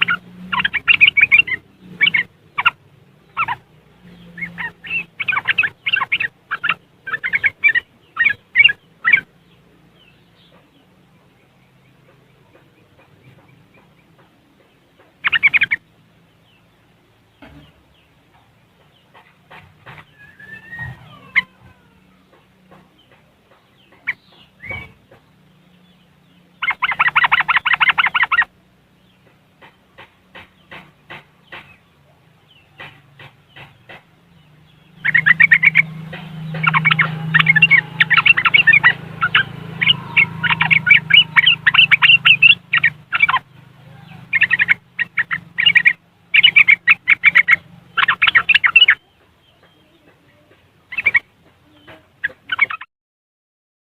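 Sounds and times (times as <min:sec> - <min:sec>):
bird chattering calls: 0:00.0 - 0:16.7, 0:17.4 - 0:52.9.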